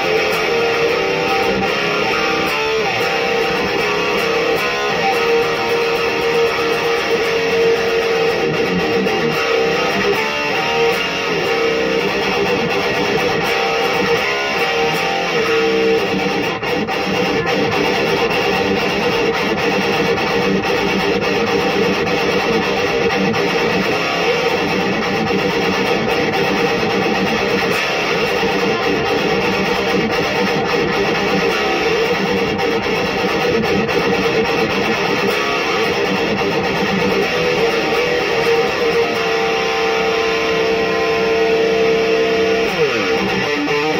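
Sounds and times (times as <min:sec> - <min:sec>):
distorted electric guitar riff: 0:00.0 - 0:43.9.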